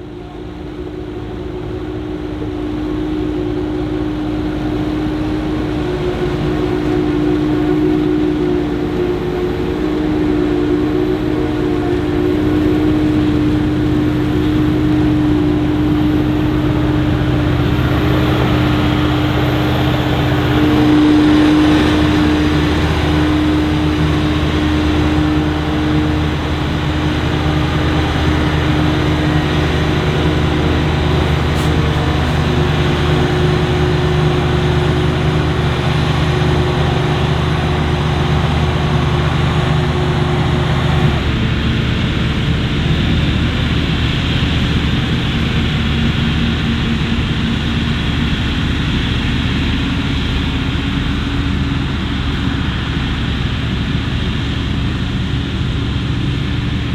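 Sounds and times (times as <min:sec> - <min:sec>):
tractor engines: 0:00.0 - 0:56.9.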